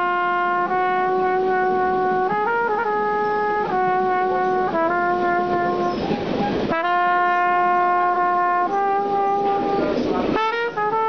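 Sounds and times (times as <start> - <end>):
trumpet playing long notes: 0.0 - 11.0.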